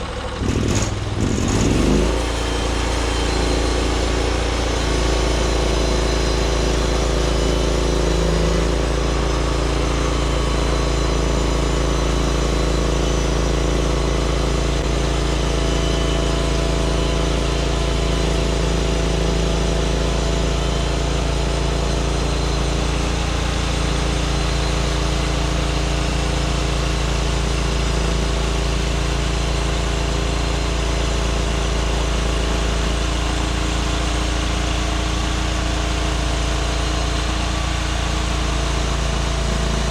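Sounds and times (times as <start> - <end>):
sawmill gas engine running: 0.0 - 39.9.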